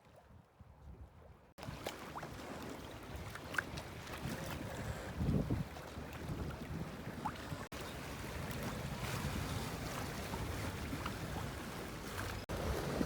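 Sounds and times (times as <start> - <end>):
wind on microphone: 0.1 - 13.0
water rushing along hull: 1.2 - 13.0.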